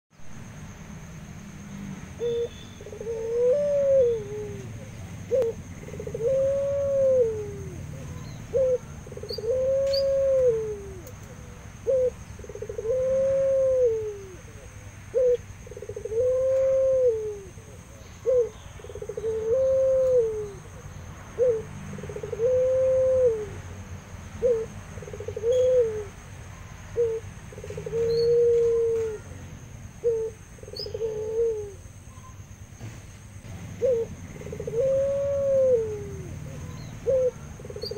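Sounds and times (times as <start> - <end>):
dove cooing: 2.2 - 23.6, 24.4 - 26.2, 26.9 - 31.9, 33.6 - 37.9.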